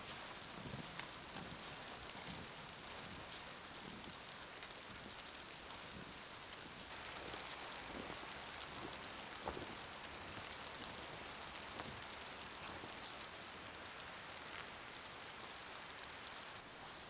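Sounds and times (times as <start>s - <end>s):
snow ticking on surfaces: 0.0s - 17.0s
snowstorm hiss: 0.0s - 17.0s.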